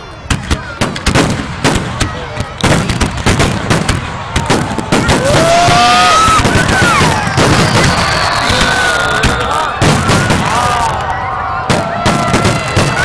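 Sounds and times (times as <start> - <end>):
fireworks bursting: 0.2 - 13.0.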